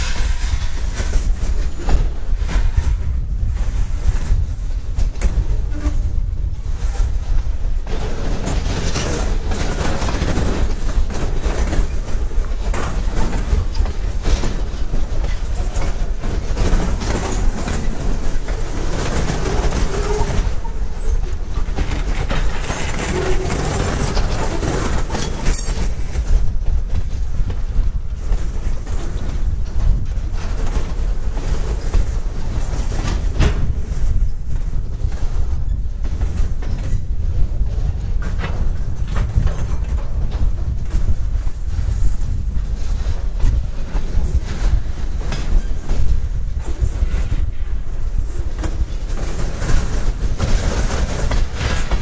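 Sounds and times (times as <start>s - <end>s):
train wheels rumbling on rails: 0.0s - 52.0s
wheels clicking over rail joints: 0.0s - 52.0s.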